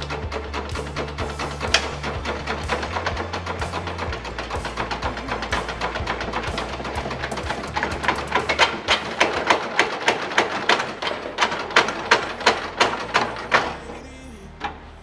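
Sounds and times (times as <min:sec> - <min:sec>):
hammer striking steel panel: 0:00.0 - 0:13.9.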